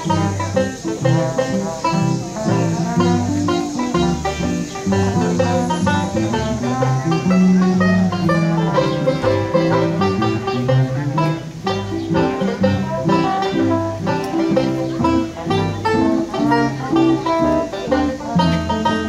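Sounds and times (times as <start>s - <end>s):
banjo strumming chords: 0.0s - 19.0s
electric bass line: 0.0s - 19.0s
guitar: 0.0s - 19.0s
trombone: 0.0s - 19.0s.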